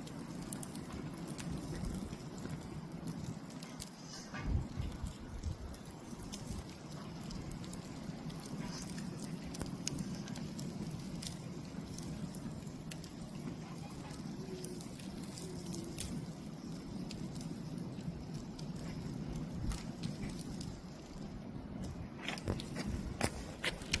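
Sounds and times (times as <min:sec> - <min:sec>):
campfire crackling and popping: 0:00.0 - 0:24.0
fire low rush: 0:00.0 - 0:24.0.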